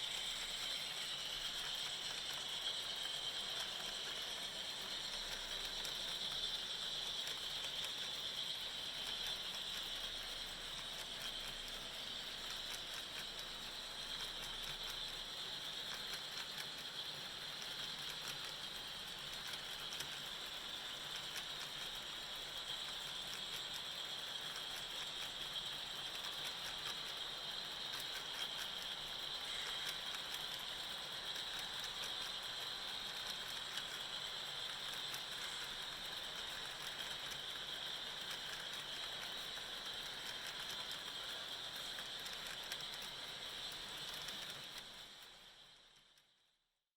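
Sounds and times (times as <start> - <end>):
fast fine wheel clicking: 0.0 - 45.8
model train motor whirring: 0.0 - 46.4.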